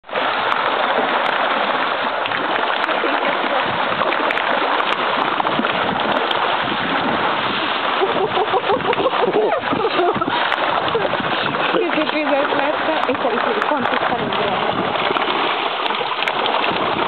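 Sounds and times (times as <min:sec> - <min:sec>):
sharks thrashing and splashing: 0:00.1 - 0:17.0
sharp water slaps: 0:00.1 - 0:17.0.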